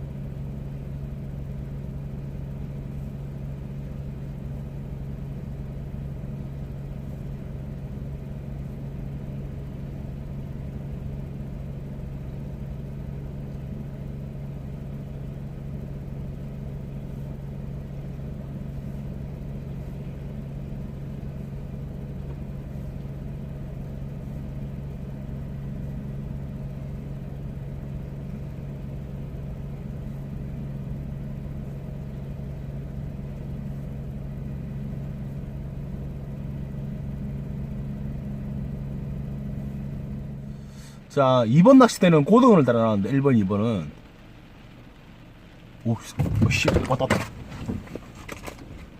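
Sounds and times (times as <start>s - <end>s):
low engine hum: 0.0s - 48.9s.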